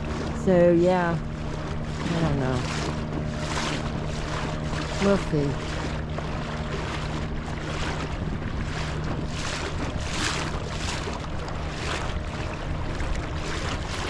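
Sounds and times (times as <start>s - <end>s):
outboard motor humming: 0.0s - 14.0s
water rushing past hull: 0.0s - 14.0s
wind on microphone: 0.0s - 14.0s.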